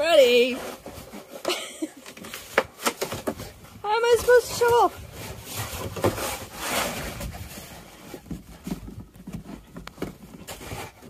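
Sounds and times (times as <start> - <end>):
plastic shovel scraping wooden deck: 0.0 - 11.0.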